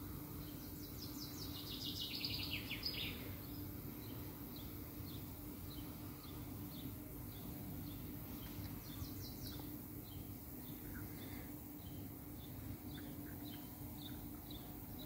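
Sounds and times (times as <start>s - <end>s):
low background hum: 0.0s - 15.0s
bird chirps: 0.4s - 15.0s
songbird trilling: 0.6s - 14.8s.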